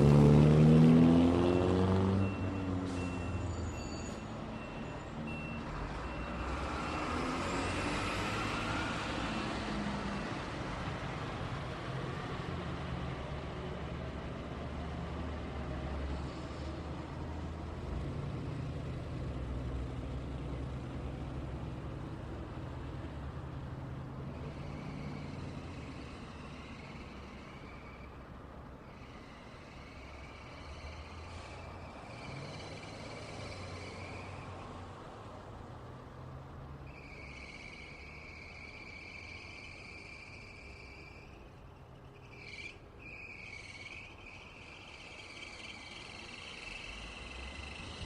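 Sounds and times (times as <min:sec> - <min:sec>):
vehicle passing: 0:00.0 - 0:03.2, 0:05.8 - 0:48.0
heavy vehicle engines: 0:00.0 - 0:48.0.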